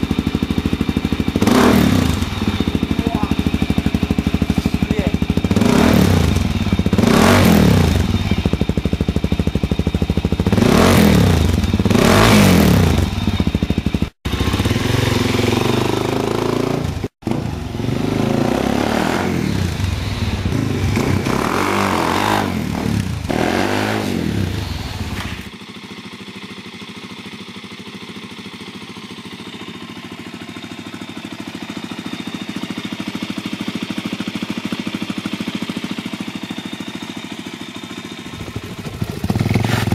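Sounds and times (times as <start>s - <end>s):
motorcycle pulling away: 0.0s - 27.3s, 28.3s - 39.9s
motorcycle engine idling: 0.0s - 39.9s
motorcycle engine revving: 0.0s - 39.9s.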